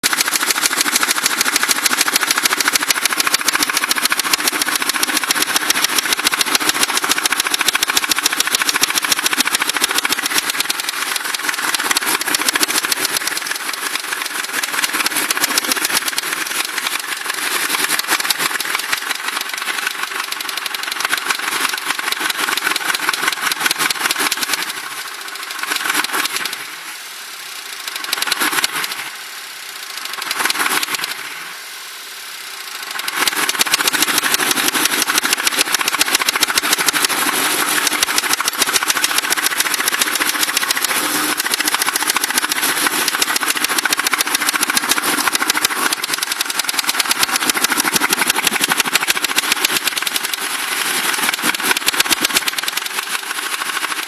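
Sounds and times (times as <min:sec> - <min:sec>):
engine running with knock: 0:00.0 - 0:54.0.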